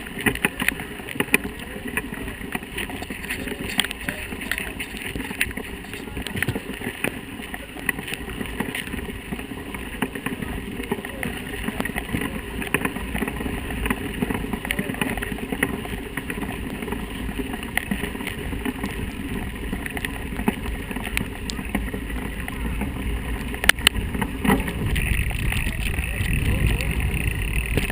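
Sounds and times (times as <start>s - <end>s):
mountain bike rumbling and rattling: 0.0s - 27.9s.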